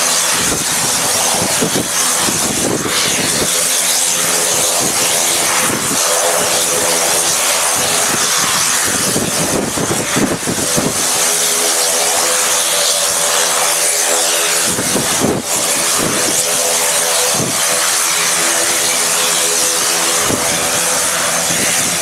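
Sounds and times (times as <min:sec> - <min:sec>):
turboprop engine running: 0:00.0 - 0:22.0
wind buffeting microphone: 0:00.0 - 0:22.0.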